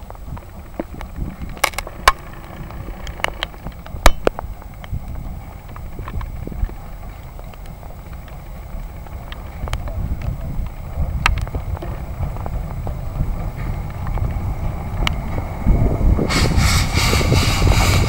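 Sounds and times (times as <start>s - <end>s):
steam locomotive rumbling: 0.0s - 18.0s.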